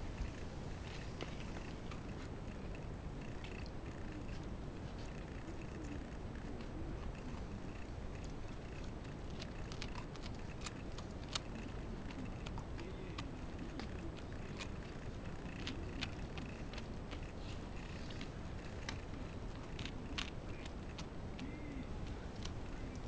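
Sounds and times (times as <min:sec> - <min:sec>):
dog gnawing a hard chew: 0:00.2 - 0:23.0.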